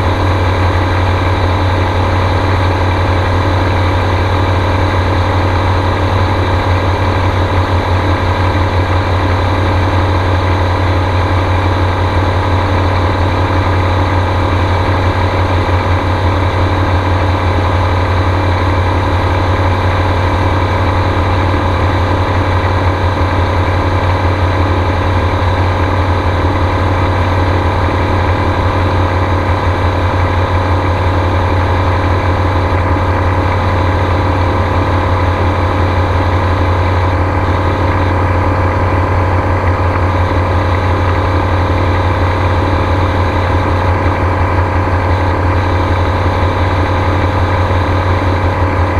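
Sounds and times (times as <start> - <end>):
aircraft engine and propeller drone: 0.0 - 48.9.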